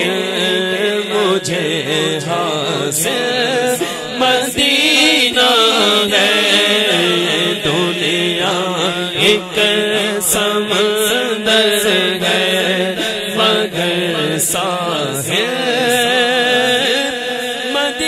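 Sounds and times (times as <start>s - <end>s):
male lead voice singing: 0.0s - 18.0s.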